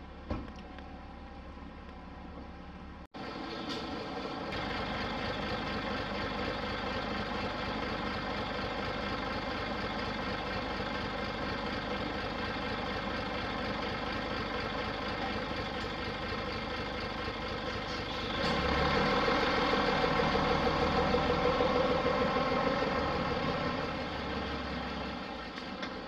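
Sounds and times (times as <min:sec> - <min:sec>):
bus diesel engine idling: 0:00.0 - 0:26.0.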